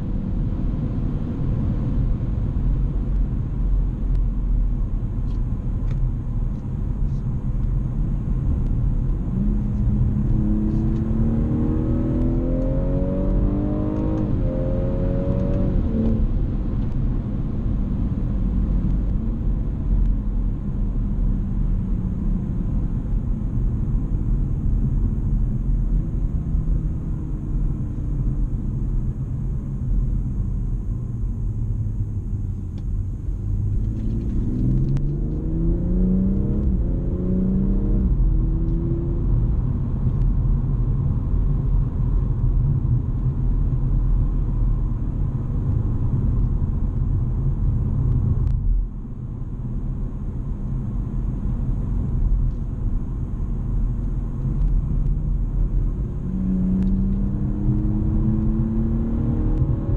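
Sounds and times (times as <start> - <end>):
car engine accelerating: 0.0 - 59.9
road and tyre rumble: 0.0 - 59.9.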